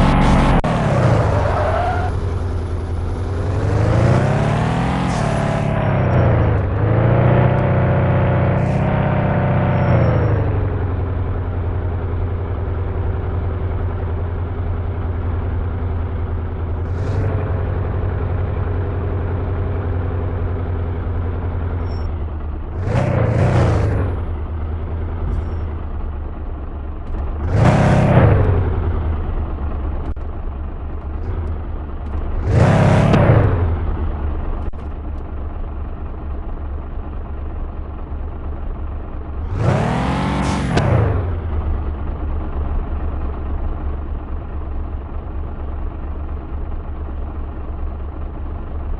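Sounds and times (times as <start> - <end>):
van engine running: 0.0 - 48.9.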